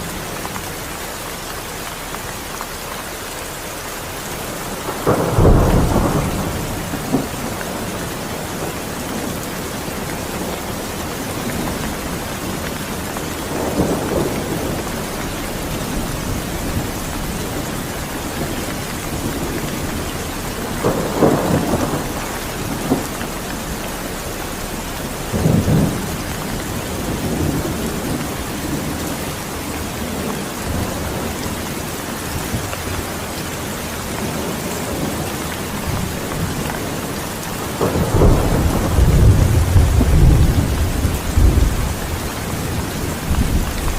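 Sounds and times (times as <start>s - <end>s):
heavy rain falling: 0.0s - 43.9s
thunder rumbling: 4.0s - 33.4s, 34.0s - 43.9s.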